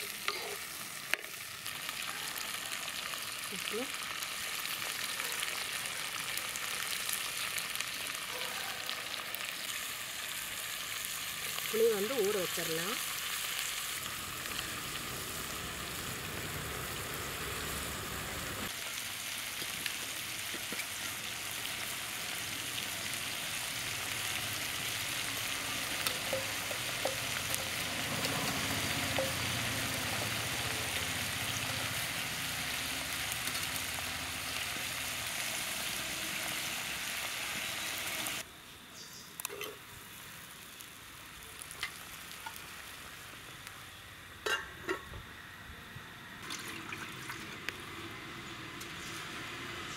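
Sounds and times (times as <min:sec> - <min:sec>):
shallots sizzling in oil: 0:00.0 - 0:45.3, 0:46.4 - 0:49.9.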